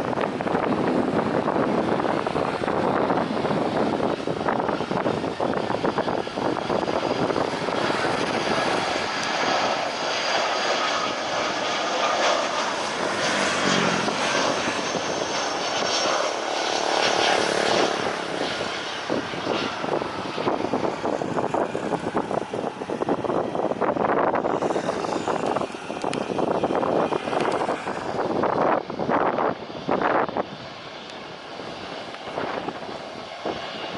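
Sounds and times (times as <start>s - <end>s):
airliner engines passing: 0.0s - 33.9s.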